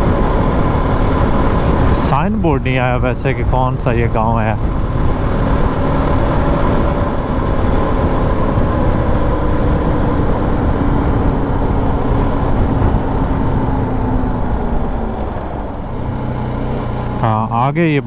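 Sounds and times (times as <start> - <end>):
wind rush on microphone: 0.0 - 16.4
motorcycle engine cruising: 0.0 - 18.0.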